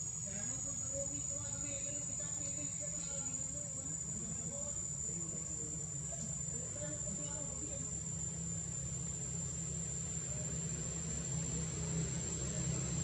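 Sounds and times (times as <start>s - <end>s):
high-pitched insect drone: 0.0s - 13.0s
low steady hum: 0.0s - 13.0s.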